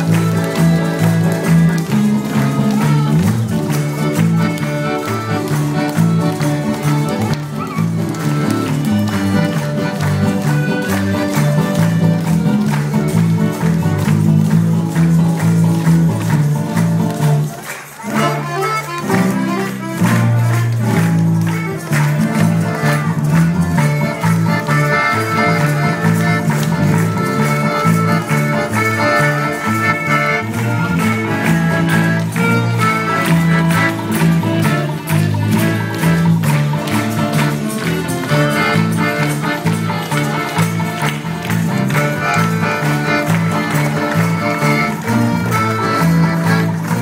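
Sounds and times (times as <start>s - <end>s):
accordion: 0.0s - 47.0s
guitars playing: 0.0s - 47.0s
tambourine shaking: 0.0s - 47.0s.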